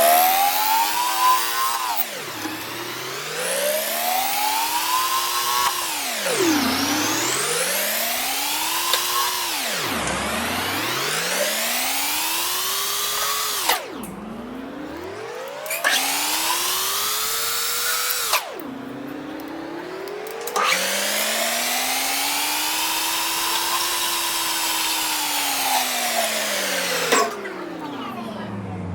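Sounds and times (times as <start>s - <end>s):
lathe machine whine: 0.0s - 28.9s.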